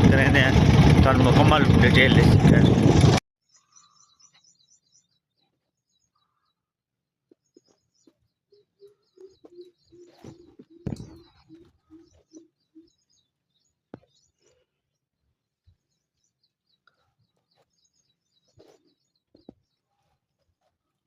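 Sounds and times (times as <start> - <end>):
small birds chirping: 3.4 - 21.0.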